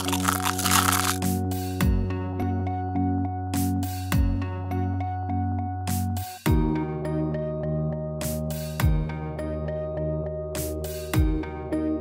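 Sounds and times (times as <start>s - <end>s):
background music with chords and bass: 0.0s - 12.0s.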